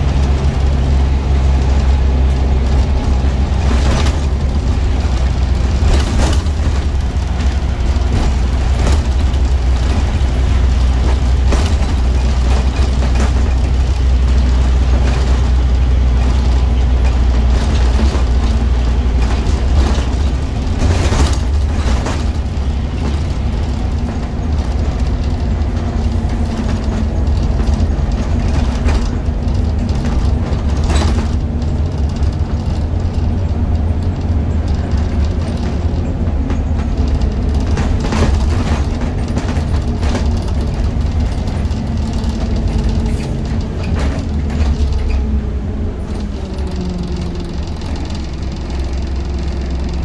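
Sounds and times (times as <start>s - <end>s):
bus engine drone: 0.0s - 50.0s
interior rattles and knocks: 0.0s - 50.0s.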